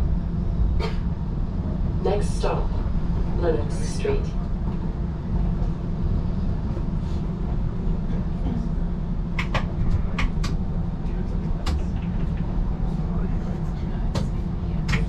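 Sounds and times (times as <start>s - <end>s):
streetcar rumbling: 0.0s - 15.0s.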